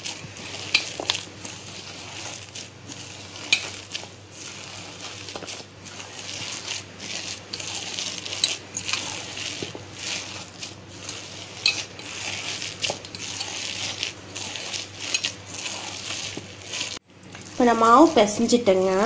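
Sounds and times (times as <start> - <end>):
hand squishing batter: 0.0 - 19.0.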